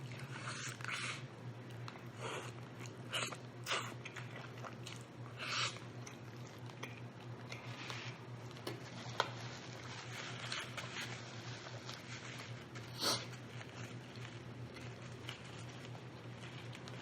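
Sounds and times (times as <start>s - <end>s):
biting and chewing: 0.0s - 9.2s, 9.8s - 17.0s
steady low hum: 0.0s - 17.0s.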